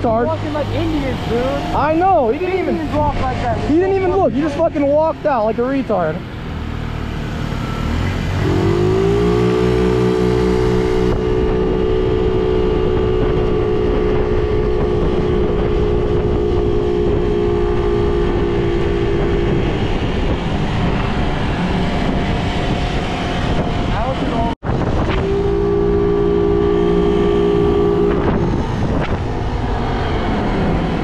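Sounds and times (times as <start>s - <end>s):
moped engine revving: 0.0s - 31.0s
wind and road noise: 0.0s - 31.0s.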